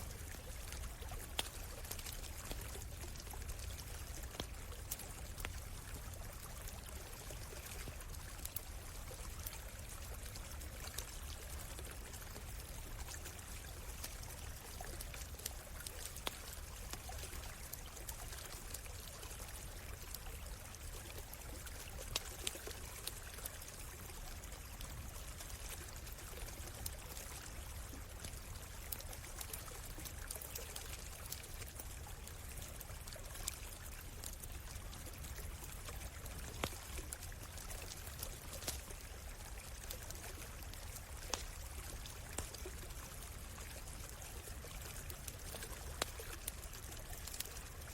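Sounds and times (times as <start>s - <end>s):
campfire crackling and popping: 0.0s - 47.9s
stream trickling: 0.0s - 47.9s.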